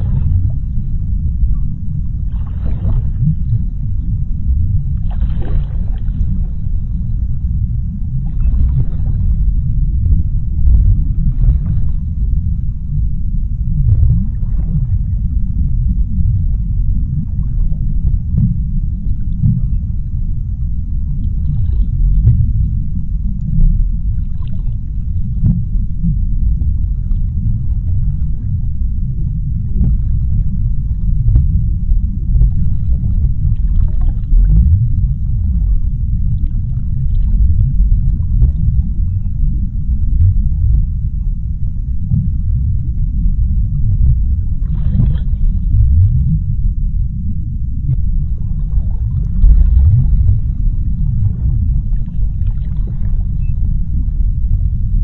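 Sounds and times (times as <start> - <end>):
deep underwater rumble: 0.0 - 55.0.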